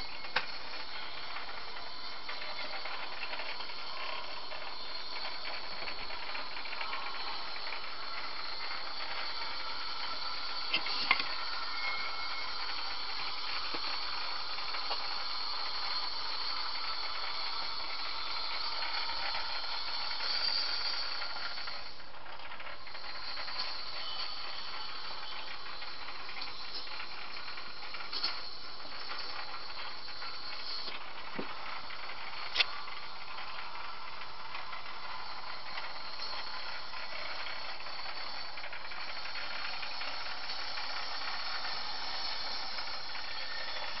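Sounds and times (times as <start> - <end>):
mechanical whir and hiss: 0.0 - 44.0.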